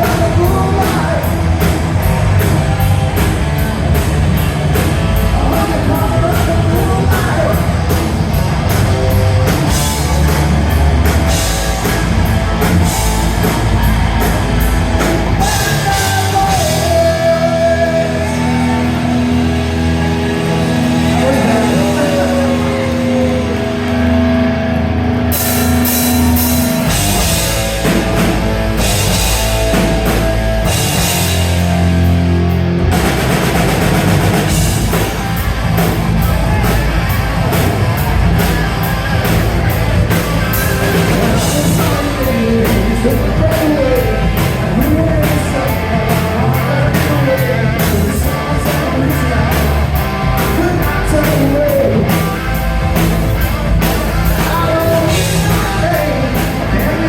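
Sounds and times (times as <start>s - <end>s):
bending lead guitar: 0.0s - 57.0s
distorted electric guitars: 0.0s - 57.0s
drum kit: 0.0s - 57.0s.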